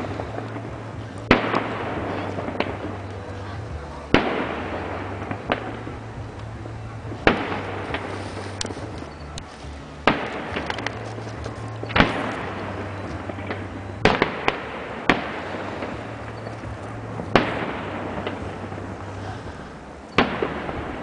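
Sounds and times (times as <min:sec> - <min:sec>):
fireworks bangs: 0:00.0 - 0:21.0
fireworks crackles: 0:00.0 - 0:21.0.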